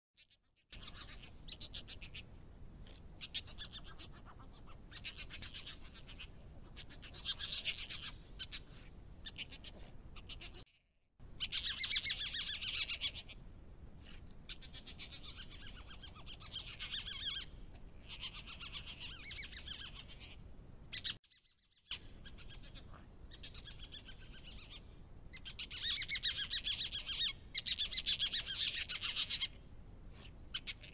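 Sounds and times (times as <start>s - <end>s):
otters calling high-pitched: 0.2s - 2.3s, 2.9s - 10.6s, 11.4s - 13.4s, 14.5s - 21.2s, 21.9s - 29.6s.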